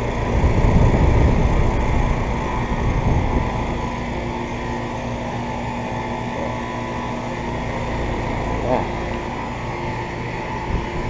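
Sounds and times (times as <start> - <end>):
air conditioner compressor hum: 0.0 - 11.0
condenser fan noise: 0.0 - 11.0.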